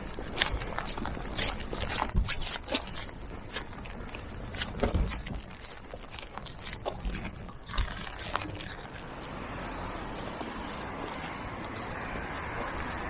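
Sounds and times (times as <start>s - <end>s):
footsteps: 0.0s - 13.0s
steady rushing noise: 0.0s - 13.0s
wind buffeting microphone: 0.0s - 13.0s.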